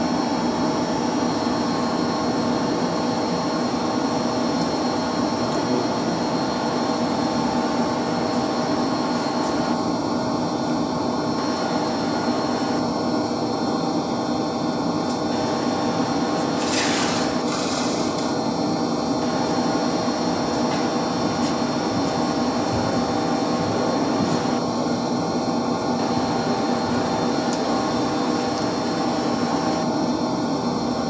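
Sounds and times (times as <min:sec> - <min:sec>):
machinery humming and whirring: 0:00.0 - 0:31.0.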